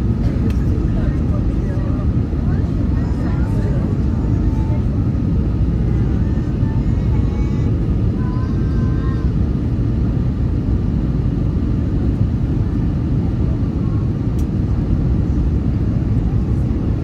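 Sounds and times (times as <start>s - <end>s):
jet engine and airflow noise: 0.0s - 17.0s
faint voices: 0.1s - 9.5s, 12.4s - 17.0s.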